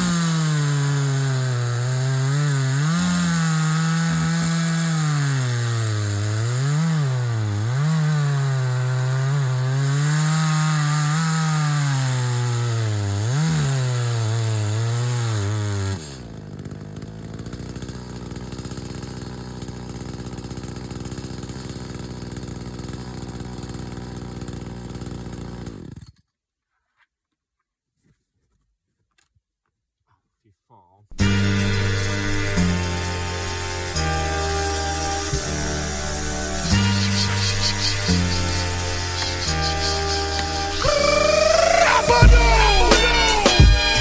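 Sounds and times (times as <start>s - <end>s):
chainsaw cutting and idling: 0.0s - 26.2s, 31.2s - 44.0s.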